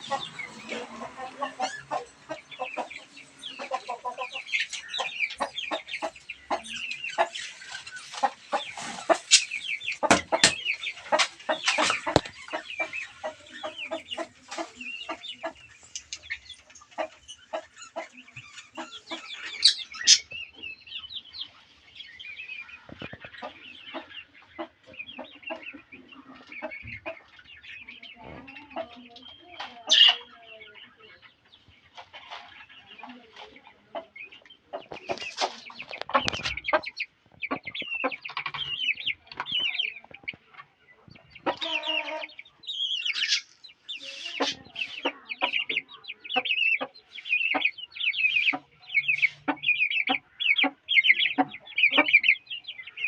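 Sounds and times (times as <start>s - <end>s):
chickens clucking: 0.0s - 53.0s.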